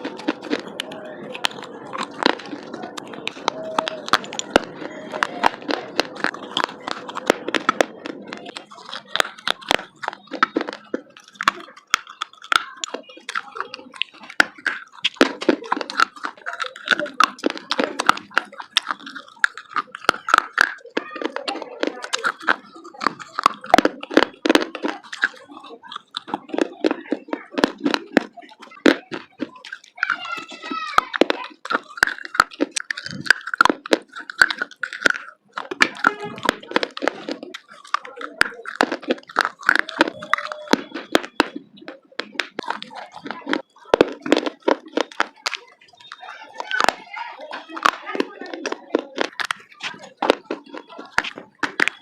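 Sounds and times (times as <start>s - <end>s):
dry clay being chewed: 0.0s - 52.0s.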